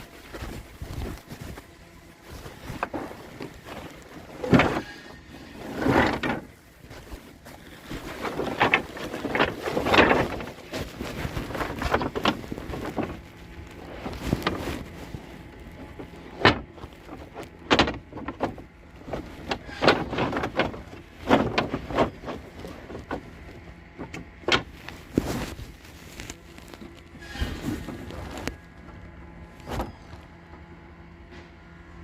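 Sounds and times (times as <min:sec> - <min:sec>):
knocks bumps and scrapes: 0:00.0 - 0:30.3.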